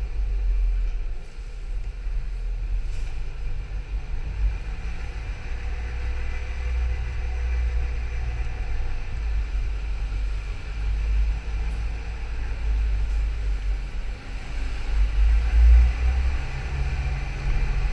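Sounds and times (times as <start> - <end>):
car engine rumbling: 0.0 - 17.9.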